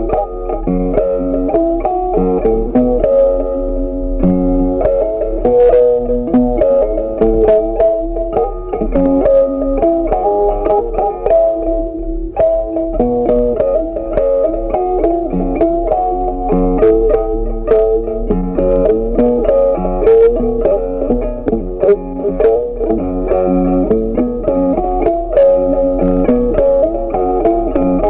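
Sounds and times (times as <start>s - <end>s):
guitar plucking quick melody: 0.0s - 28.0s.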